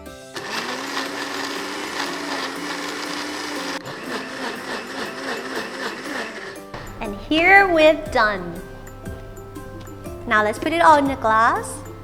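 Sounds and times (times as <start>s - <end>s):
blender motor whining: 0.0s - 12.0s.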